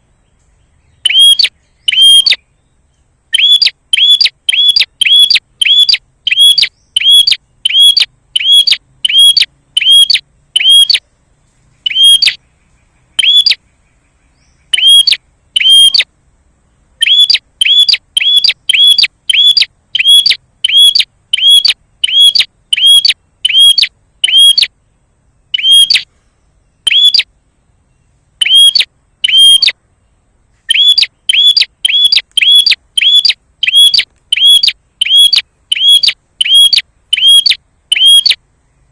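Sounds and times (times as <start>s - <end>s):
bird sharp chip calls: 0.9s - 2.5s, 3.4s - 11.0s, 11.8s - 16.1s, 17.0s - 24.8s, 25.5s - 26.2s, 26.8s - 27.3s, 28.4s - 29.8s, 30.7s - 38.4s.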